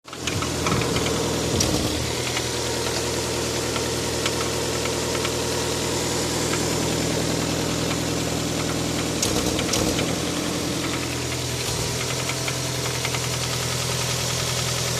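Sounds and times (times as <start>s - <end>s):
knocking inside engine: 0.1s - 5.5s, 6.3s - 14.4s
car engine idling: 0.1s - 14.9s.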